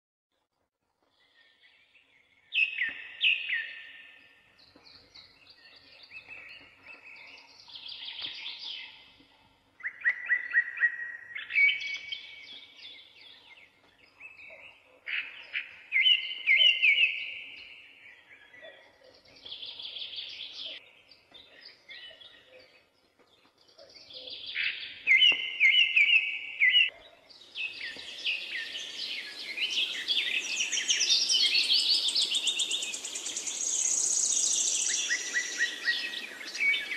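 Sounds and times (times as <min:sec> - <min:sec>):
birds chirping and trilling: 0:01.1 - 0:36.9.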